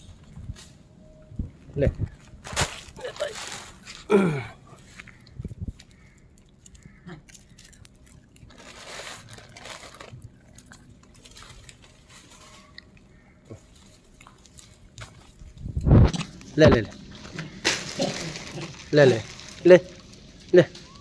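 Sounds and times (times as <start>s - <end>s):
monkeys crunching snacks: 2.8s - 21.0s.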